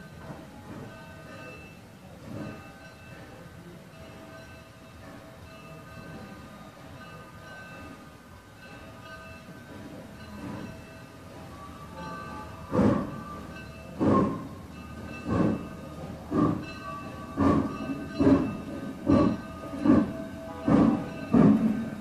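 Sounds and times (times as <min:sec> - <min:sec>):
steam locomotive chuffing: 0:00.0 - 0:22.0.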